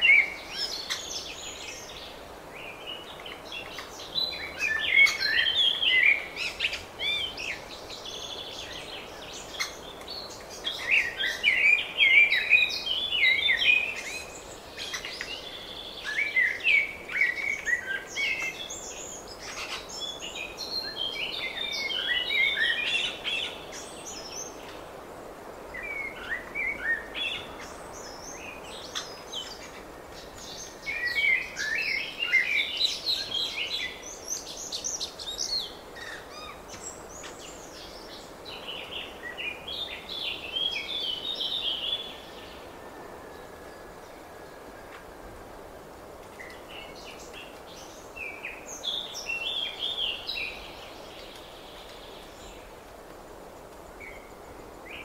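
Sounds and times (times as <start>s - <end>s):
songbirds warbling: 0.0s - 45.6s, 46.3s - 52.9s
background hiss: 0.0s - 55.0s.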